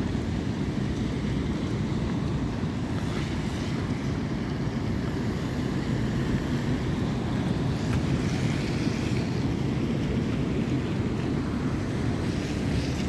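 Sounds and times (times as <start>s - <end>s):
car tyres hissing on wet road: 0.0s - 13.0s
surf rushing: 0.0s - 13.0s.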